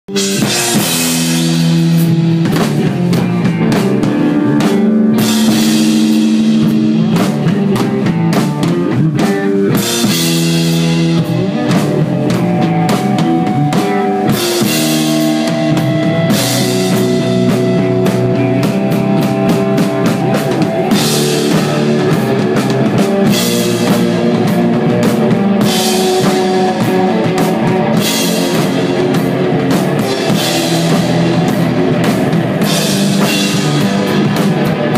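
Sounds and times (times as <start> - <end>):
rock band playing live: 0.1 - 34.9.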